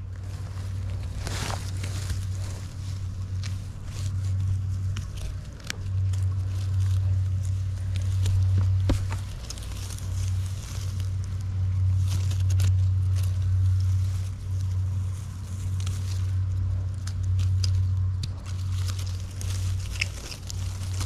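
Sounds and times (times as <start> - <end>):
footsteps crunching dry leaves: 0.0 - 21.0
low hum: 0.0 - 21.0.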